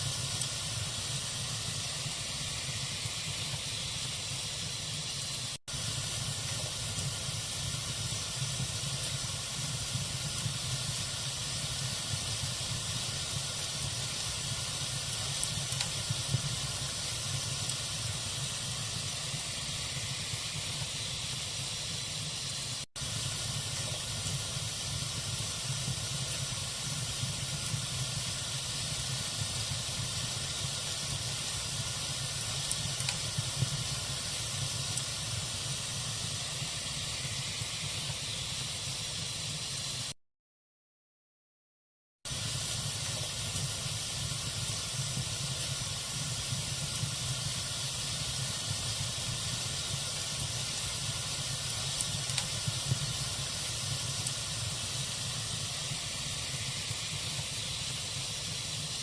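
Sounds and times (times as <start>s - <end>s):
log fire hissing and crackling: 0.0s - 40.2s, 42.3s - 59.0s.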